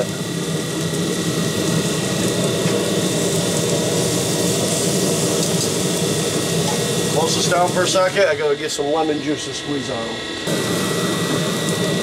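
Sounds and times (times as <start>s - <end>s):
grill fan humming: 0.0s - 12.0s.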